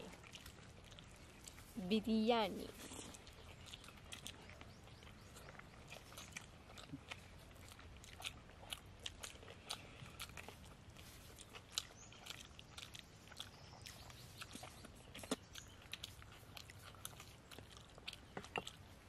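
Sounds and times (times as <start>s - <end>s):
chewing with wet clicks and crunches: 0.0s - 19.0s.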